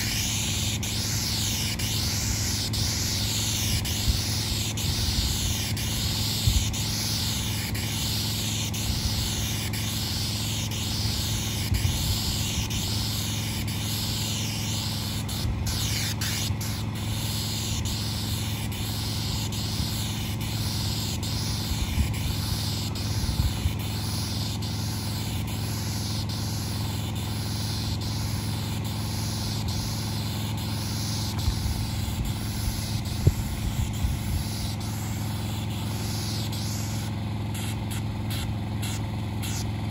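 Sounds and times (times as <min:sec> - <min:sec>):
spray wand hissing: 0:00.0 - 0:39.7
pump motor humming: 0:00.0 - 0:39.9.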